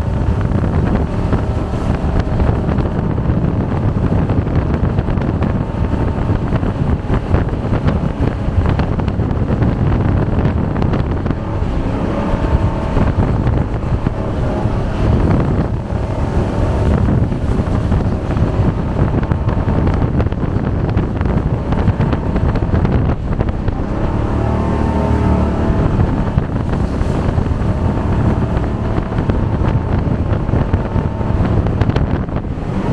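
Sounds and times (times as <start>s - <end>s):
boat engine running: 0.0s - 32.9s
rushing water: 0.0s - 32.9s
wind noise on microphone: 0.0s - 32.9s.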